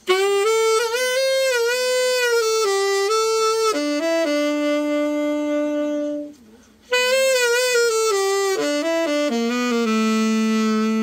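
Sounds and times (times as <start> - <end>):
tenor saxophone playing: 0.0 - 11.0.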